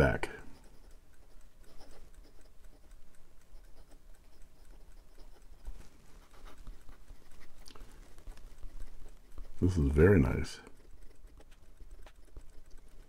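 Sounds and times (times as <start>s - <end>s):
fountain pen writing on paper: 0.0s - 13.0s.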